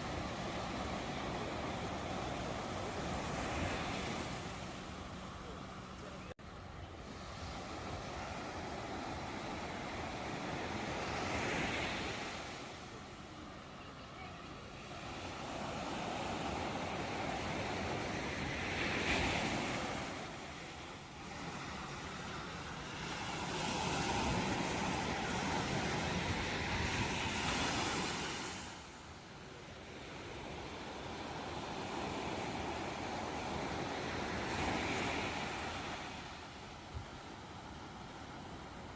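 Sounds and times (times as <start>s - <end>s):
ocean waves breaking: 0.0s - 6.4s, 7.0s - 38.9s.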